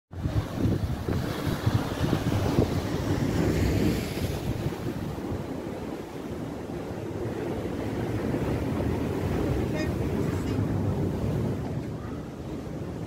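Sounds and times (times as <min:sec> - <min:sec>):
sea waves breaking on rocks: 0:00.1 - 0:11.6
wind buffeting microphone: 0:00.1 - 0:13.0.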